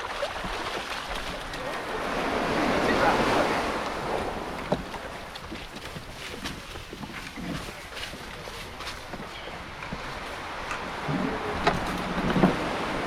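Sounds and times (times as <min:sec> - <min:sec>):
sea wave washing: 0:00.0 - 0:13.0.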